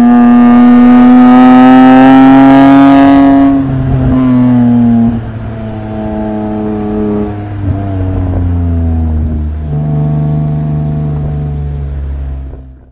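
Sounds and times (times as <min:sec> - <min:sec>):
car engine revs falling: 0:00.0 - 0:12.9.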